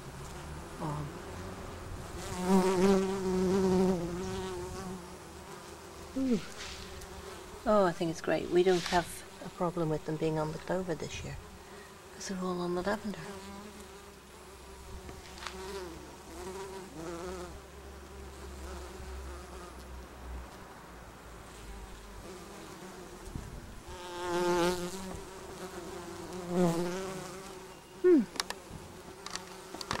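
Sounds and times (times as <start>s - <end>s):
bees buzzing: 0.0s - 19.8s, 21.5s - 30.0s.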